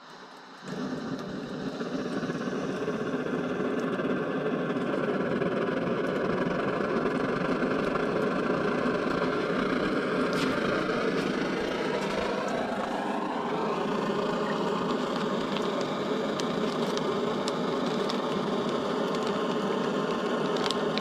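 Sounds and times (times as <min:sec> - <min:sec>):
camping stove burner rushing: 0:00.0 - 0:21.0.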